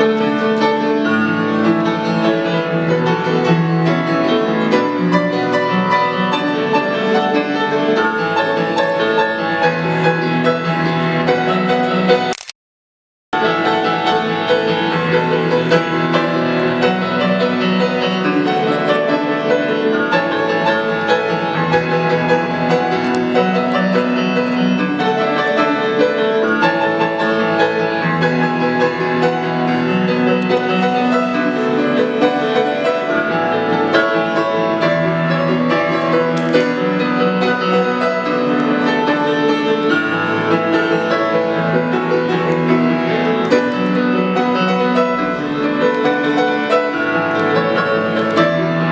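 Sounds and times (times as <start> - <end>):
piano music with chords: 0.0 - 12.3, 13.4 - 48.9.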